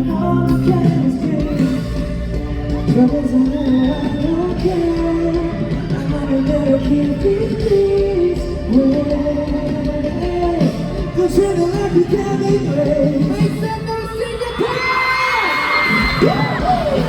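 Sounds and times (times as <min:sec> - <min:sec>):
drums: 0:00.0 - 0:17.0
electric guitars: 0:00.0 - 0:17.0.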